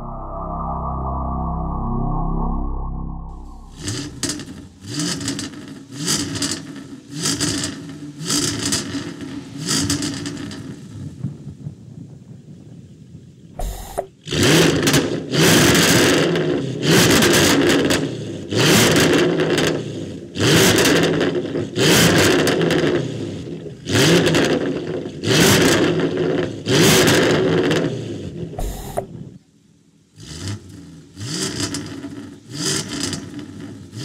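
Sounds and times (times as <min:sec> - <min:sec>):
car engine idling and revving: 0:03.0 - 0:11.4, 0:13.6 - 0:34.0.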